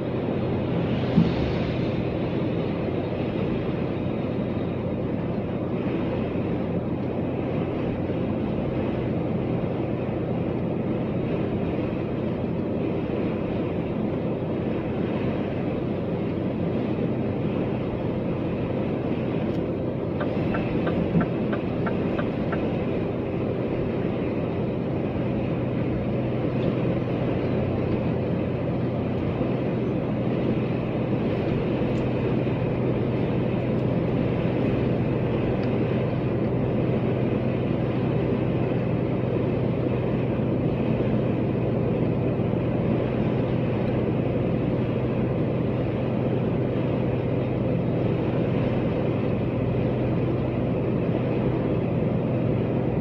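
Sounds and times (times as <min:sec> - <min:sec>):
road noise: 0:00.0 - 0:53.0
vehicle engine hum: 0:00.0 - 0:53.0.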